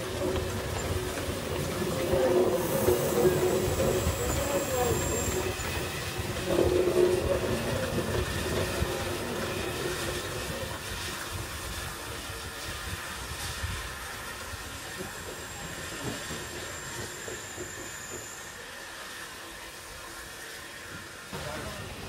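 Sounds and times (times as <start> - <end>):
steam locomotive rumbling: 0.0 - 22.0
wheels squealing on rails: 0.0 - 22.0.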